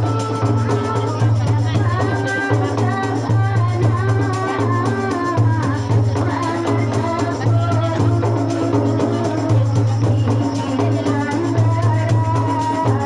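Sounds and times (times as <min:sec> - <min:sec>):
woman singing: 0:00.0 - 0:13.0.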